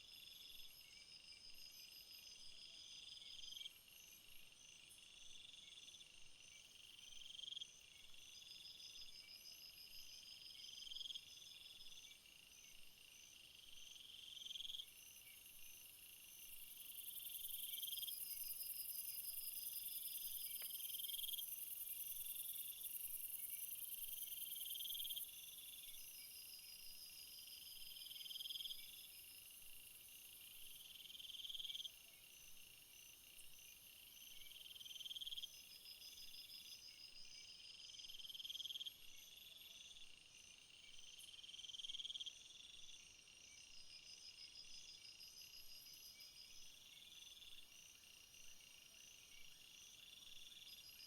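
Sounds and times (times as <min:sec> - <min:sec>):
insects chirping and trilling: 0:00.0 - 0:51.0
high insect call: 0:06.9 - 0:51.0.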